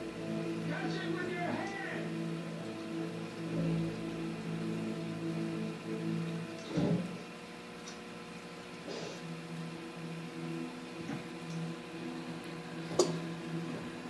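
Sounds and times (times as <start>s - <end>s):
aquarium equipment humming: 0.0s - 14.0s.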